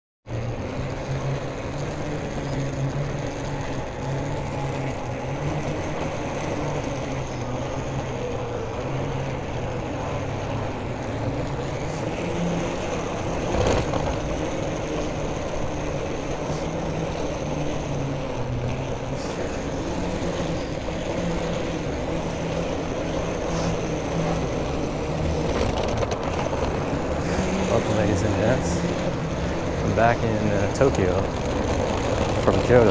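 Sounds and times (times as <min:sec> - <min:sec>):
road traffic hum: 0:00.2 - 0:32.9.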